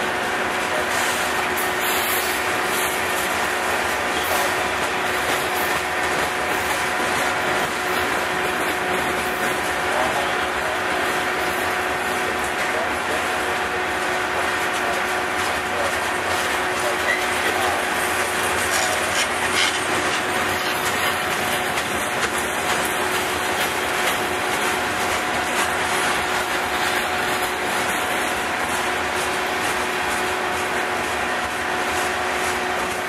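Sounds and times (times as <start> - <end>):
freight train wheels rumbling and rattling: 0.0 - 33.0.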